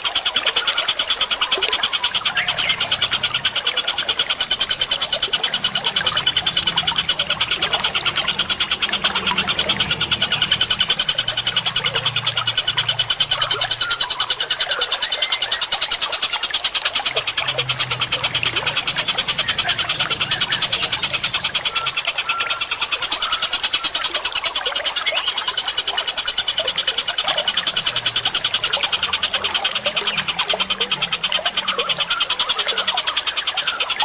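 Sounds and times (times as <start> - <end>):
rapid high bird chirps: 0.0 - 34.0.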